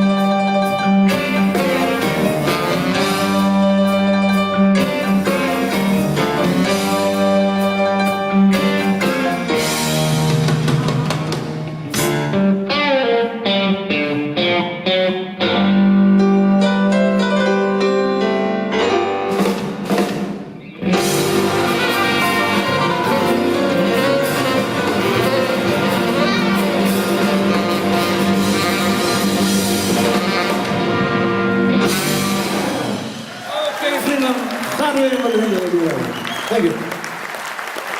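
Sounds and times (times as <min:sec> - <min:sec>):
blues-rock band playing: 0:00.0 - 0:34.1.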